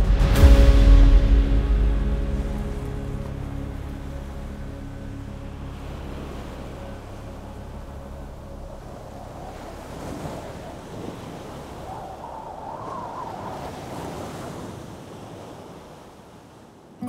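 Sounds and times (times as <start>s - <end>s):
sea waves washing: 0.0s - 17.0s
wind: 0.0s - 17.0s.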